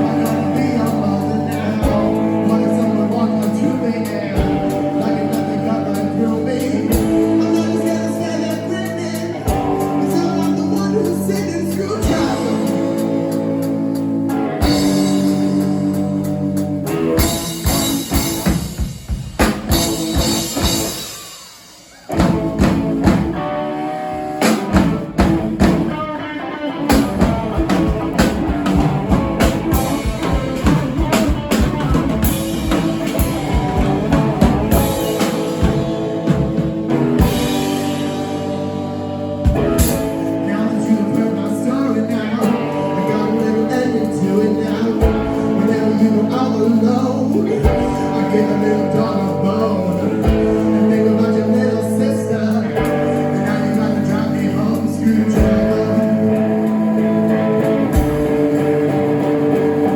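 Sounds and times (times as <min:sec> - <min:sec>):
person singing: 0:00.0 - 0:16.2, 0:25.9 - 0:59.9
drum kit: 0:00.0 - 0:59.9
electric guitar: 0:00.0 - 0:59.9.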